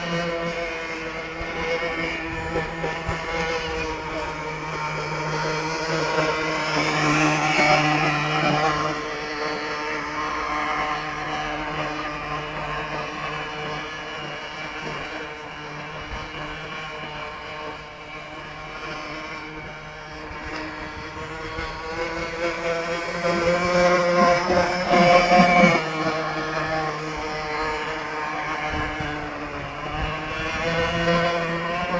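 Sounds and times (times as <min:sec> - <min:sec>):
model speedboat motor running: 0:00.0 - 0:31.9.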